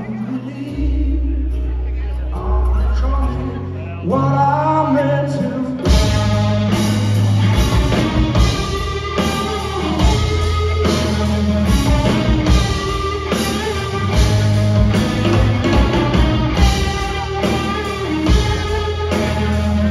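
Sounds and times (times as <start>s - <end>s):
live rock band playing: 0.0s - 19.9s.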